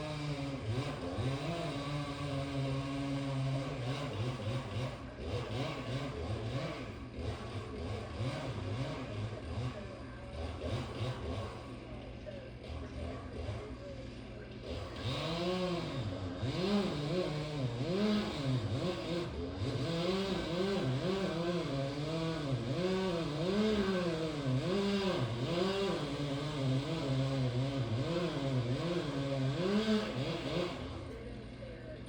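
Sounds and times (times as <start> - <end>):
chainsaw cutting wood: 0.0 - 11.8, 12.6 - 31.3.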